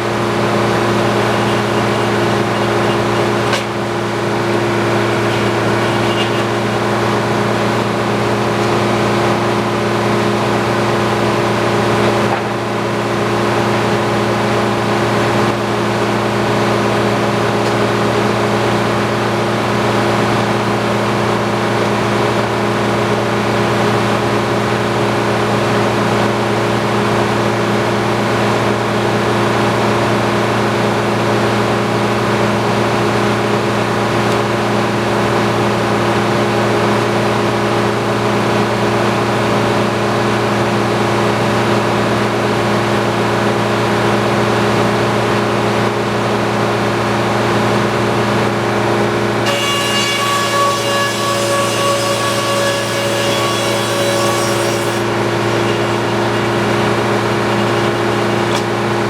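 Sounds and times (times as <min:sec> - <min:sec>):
sawmill engine drone: 0:00.0 - 0:59.0.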